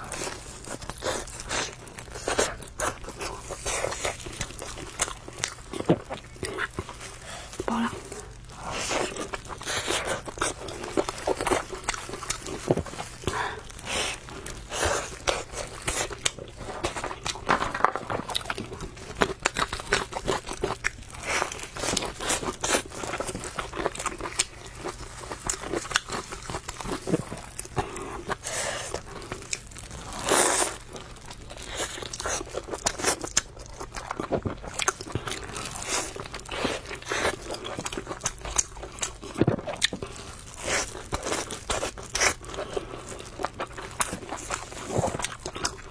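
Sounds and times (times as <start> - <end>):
crunchy food chewing: 0.0 - 45.9.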